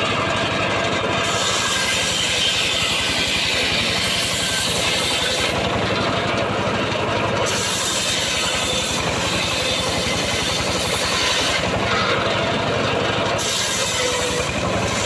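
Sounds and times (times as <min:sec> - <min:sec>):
engine-driven saw cutting wood: 0:00.0 - 0:15.0.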